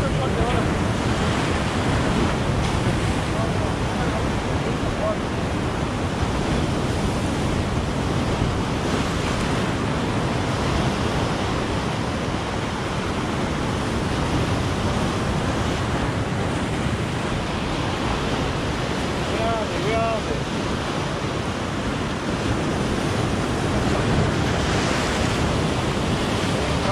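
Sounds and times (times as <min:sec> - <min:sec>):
sea waves breaking on rocks: 0:00.0 - 0:26.9.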